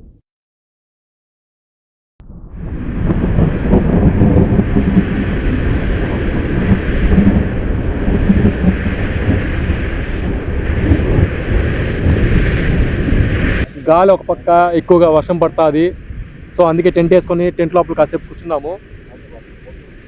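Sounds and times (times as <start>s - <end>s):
wind buffeting microphone: 2.2s - 20.0s.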